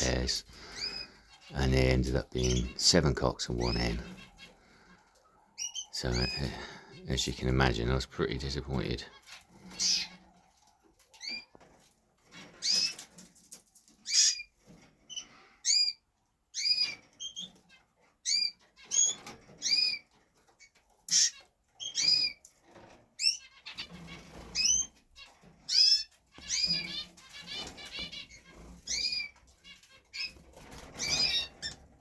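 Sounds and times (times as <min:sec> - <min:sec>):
canaries calling: 0:00.0 - 0:11.6, 0:12.3 - 0:13.3, 0:13.9 - 0:32.0.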